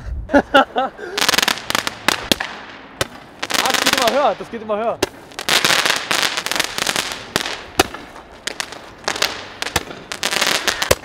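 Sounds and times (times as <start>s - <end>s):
fireworks hissing and crackling: 0.9s - 11.0s.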